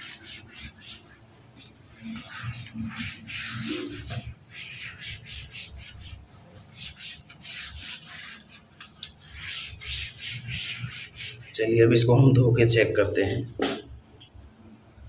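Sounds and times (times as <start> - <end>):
scrubbing wet tile floor: 0.0 - 12.1.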